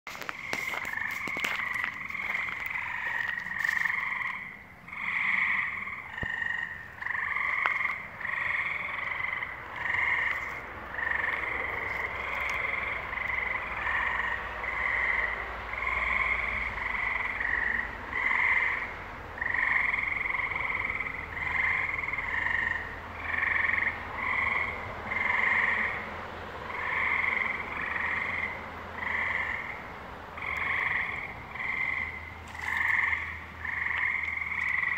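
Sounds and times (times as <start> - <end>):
frogs calling: 0.1 - 34.9.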